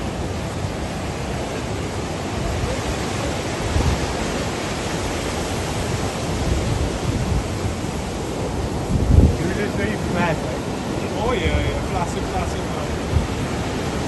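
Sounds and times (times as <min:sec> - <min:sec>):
hurricane wind: 0:00.0 - 0:14.0
surf: 0:00.0 - 0:14.0
wind buffeting microphone: 0:00.0 - 0:14.0.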